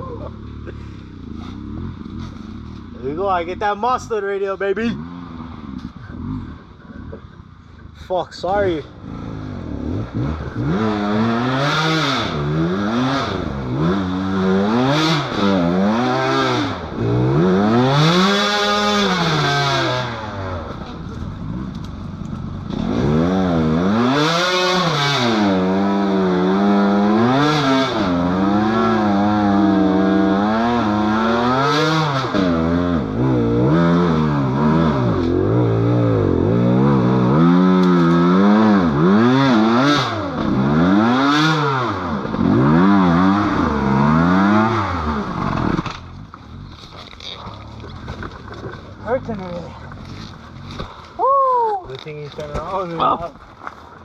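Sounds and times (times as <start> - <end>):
dirt bike engine revving: 0.0 - 7.3, 8.4 - 51.2.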